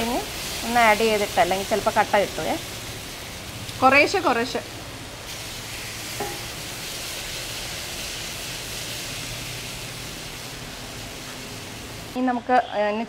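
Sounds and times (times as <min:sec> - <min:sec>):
semolina sizzling in a pan: 0:00.0 - 0:12.3.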